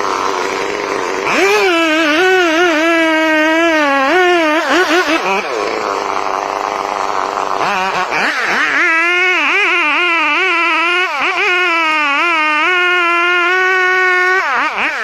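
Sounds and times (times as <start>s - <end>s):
chainsaw running at high speed: 0.0s - 15.0s.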